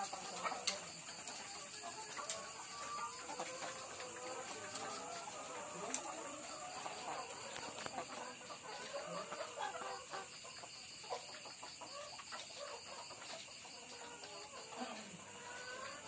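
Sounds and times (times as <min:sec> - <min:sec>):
hens clucking and calling: 0:00.0 - 0:16.0
steady high-pitched hiss: 0:00.0 - 0:16.0.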